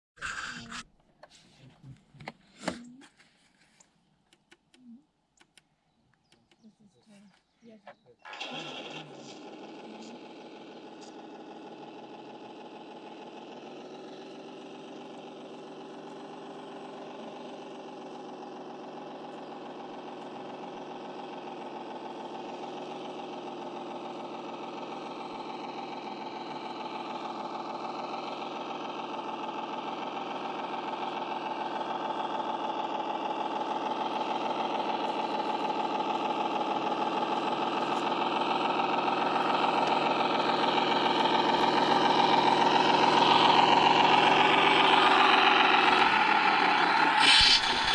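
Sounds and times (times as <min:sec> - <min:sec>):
rc truck mechanical drone: 0:00.2 - 0:01.2, 0:07.3 - 0:47.9.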